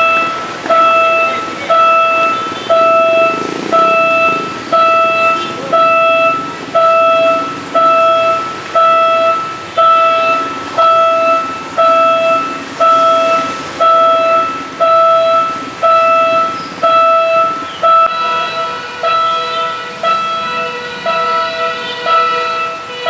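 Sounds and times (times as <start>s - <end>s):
level crossing bell ringing: 0.0s - 23.0s.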